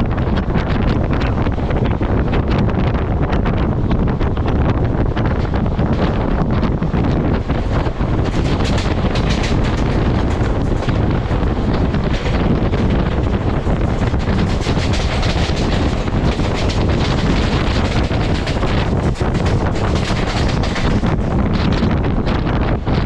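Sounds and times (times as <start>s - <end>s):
loud low rumble: 0.0s - 23.0s
wind buffeting microphone: 0.0s - 23.0s
rapid clattering: 4.4s - 23.0s.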